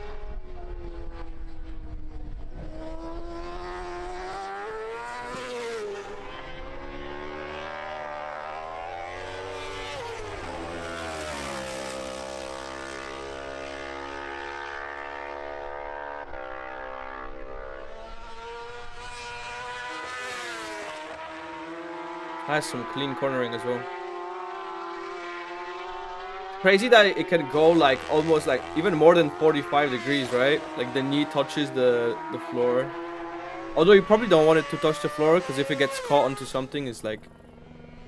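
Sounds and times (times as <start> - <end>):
racing motorcycle engine revving: 0.0 - 38.0.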